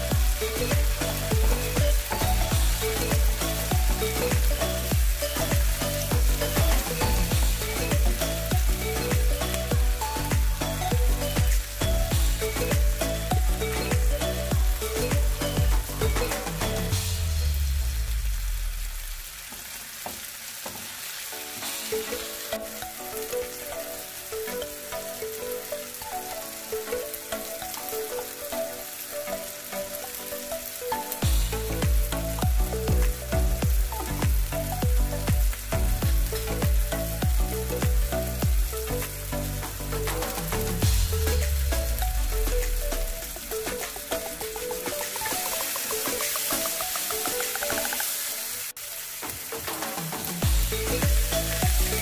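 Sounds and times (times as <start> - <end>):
background music with bass beat: 0.0 - 19.2, 21.5 - 48.7, 49.3 - 52.0
food sizzling and crackling: 0.0 - 52.0.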